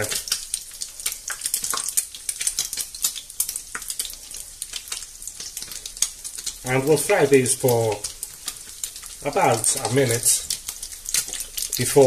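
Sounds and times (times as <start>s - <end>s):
bread frying in oil: 0.0s - 12.0s.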